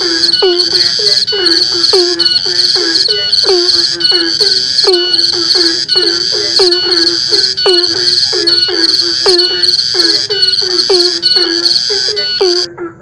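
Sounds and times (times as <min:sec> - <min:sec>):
high-pitched pulsing trill: 0:00.0 - 0:12.7.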